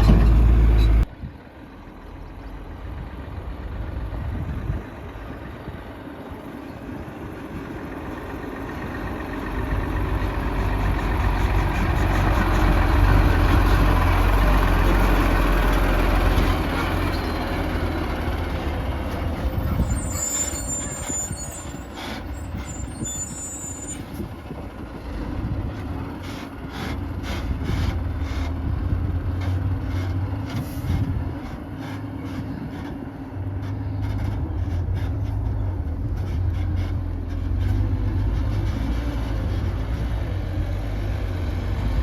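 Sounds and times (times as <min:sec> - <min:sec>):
diesel truck engine passing: 0:00.0 - 0:42.0.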